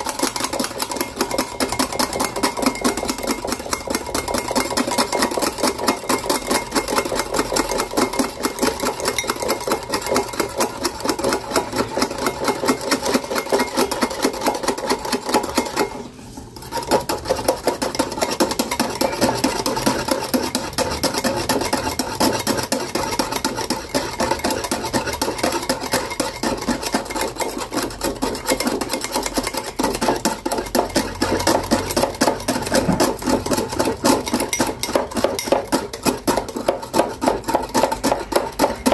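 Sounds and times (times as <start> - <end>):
whisk beating against glass bowl: 0.0 - 38.9.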